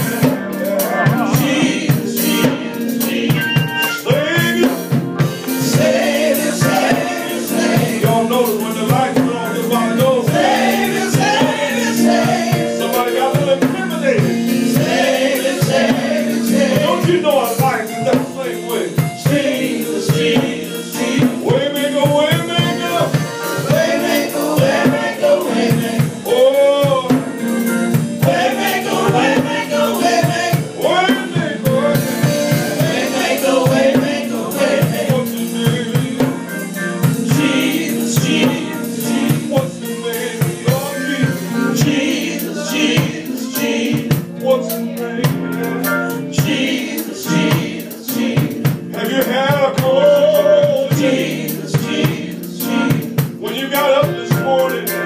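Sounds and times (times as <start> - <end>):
backing vocalists singing: 0.0 - 55.0
drum kit steady beat: 0.0 - 55.0
lead singer with vibrato: 0.0 - 55.0.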